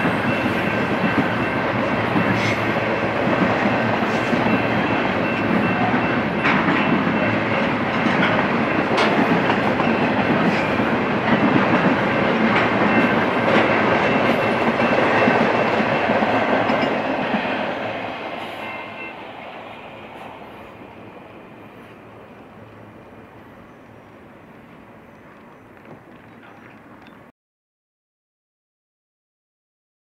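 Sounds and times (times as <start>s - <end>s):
freight train rumbling on rails: 0.0s - 27.3s.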